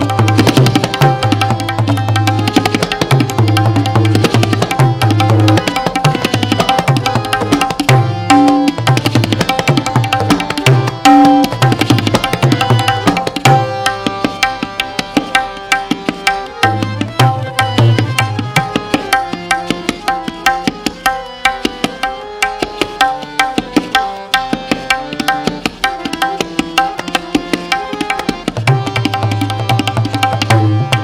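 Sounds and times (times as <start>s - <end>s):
held melodic notes: 0.0s - 31.0s
tabla strokes: 0.0s - 31.0s.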